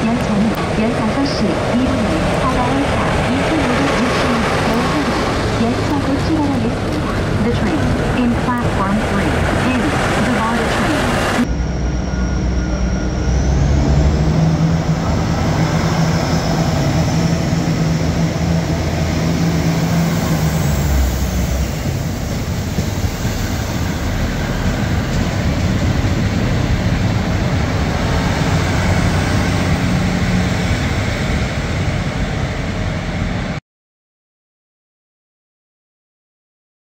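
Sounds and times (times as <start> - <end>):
diesel railcar engine running: 0.0 - 33.6.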